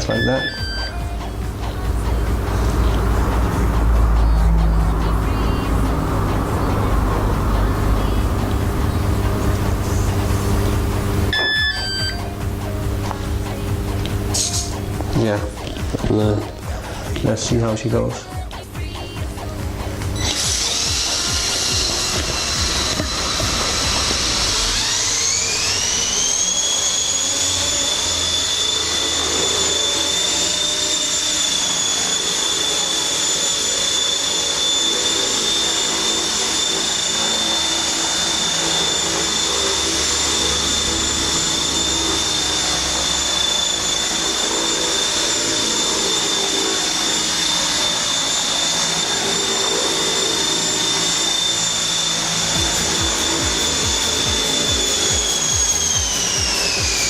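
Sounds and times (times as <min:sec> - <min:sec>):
rc helicopter whine: 0:00.0 - 0:57.0.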